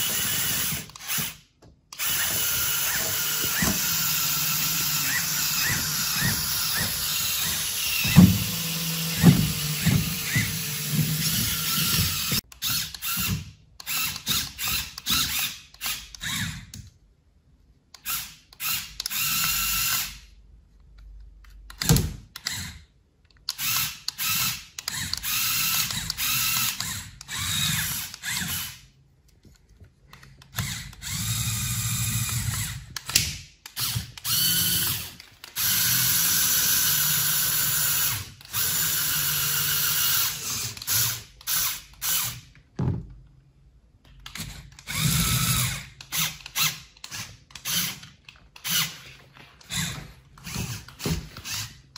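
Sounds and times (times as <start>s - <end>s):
electric motor and gears whirring: 0.0s - 16.8s, 18.0s - 20.2s, 23.5s - 28.9s, 30.4s - 42.5s, 44.2s - 51.9s.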